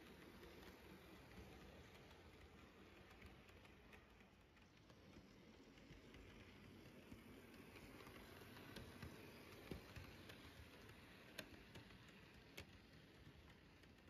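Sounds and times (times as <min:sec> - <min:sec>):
model train rolling past: 0:00.0 - 0:14.0
wheels clicking on rails: 0:00.0 - 0:14.0.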